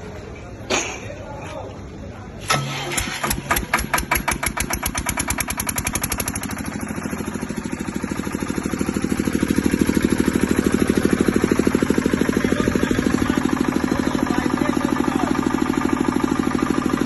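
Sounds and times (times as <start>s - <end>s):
diesel generator running: 2.4s - 17.0s.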